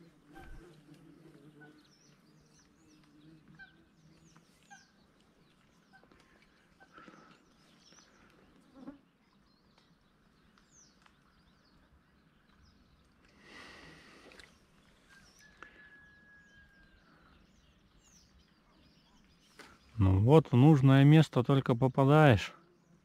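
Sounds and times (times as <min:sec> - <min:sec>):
faint bird chirps: 0:01.6 - 0:20.4.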